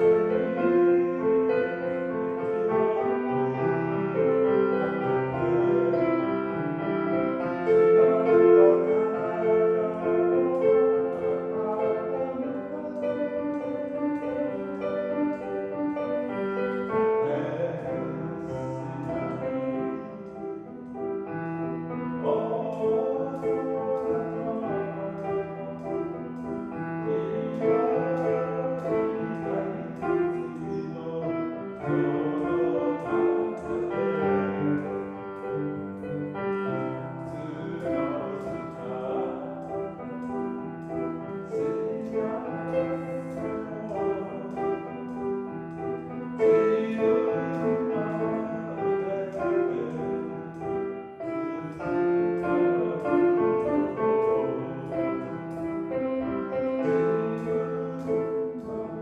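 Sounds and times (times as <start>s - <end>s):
piano playing slow chords: 0.0s - 59.0s.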